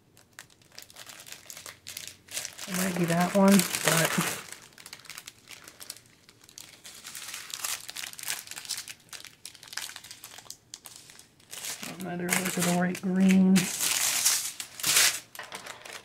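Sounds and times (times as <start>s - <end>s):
plastic bags crinkling: 0.1s - 16.0s.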